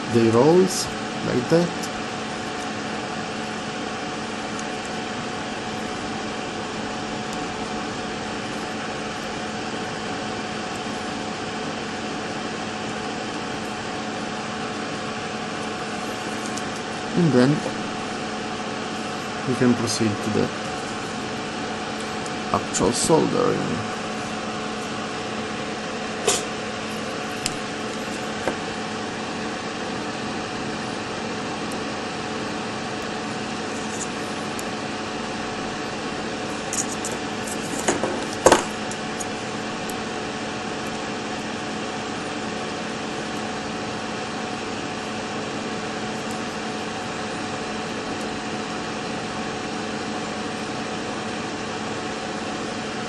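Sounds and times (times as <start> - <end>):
fan-like hum: 0.0 - 53.0.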